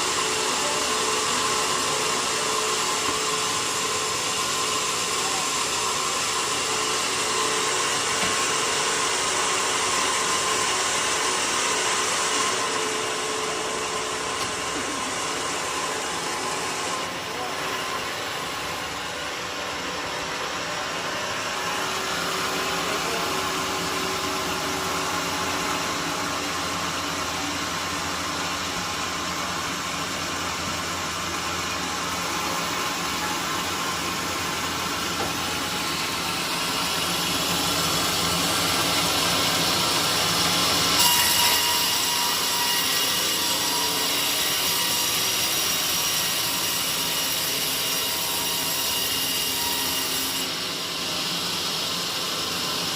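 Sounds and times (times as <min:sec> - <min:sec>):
saw whine: 0:00.0 - 0:52.9
sawmill saw cutting log: 0:00.0 - 0:52.9.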